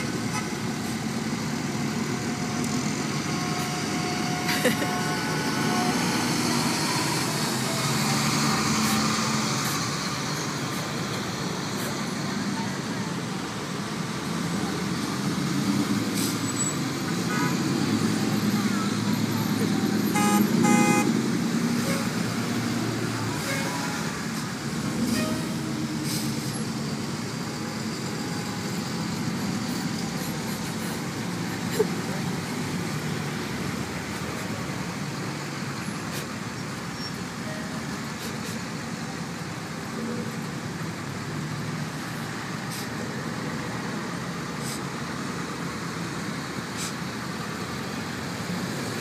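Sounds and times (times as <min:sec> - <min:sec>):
road noise: 0:00.0 - 0:49.0
trucks driving slowly past: 0:00.0 - 0:49.0.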